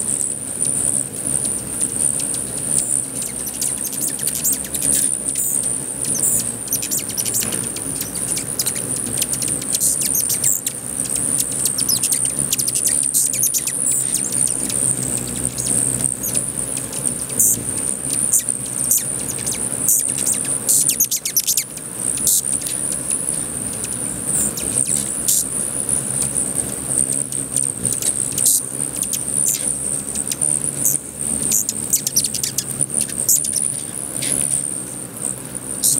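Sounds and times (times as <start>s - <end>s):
high-pitched whine: 0.0s - 35.9s
hummingbird chirps: 0.0s - 35.9s
hummingbird wings whirring: 0.0s - 35.9s.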